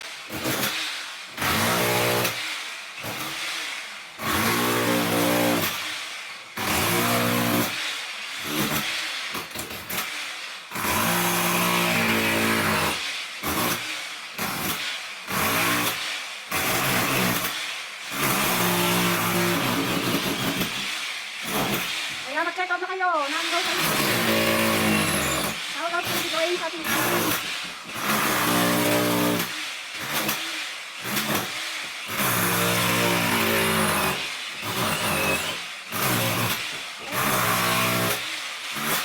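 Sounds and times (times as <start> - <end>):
electric chipping hammer: 0.0 - 39.0.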